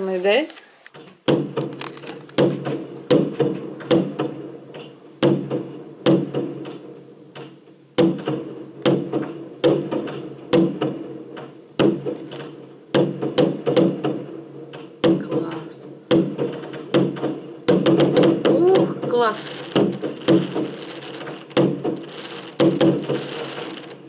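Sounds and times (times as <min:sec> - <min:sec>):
fireworks banging through window: 0:00.8 - 0:24.0.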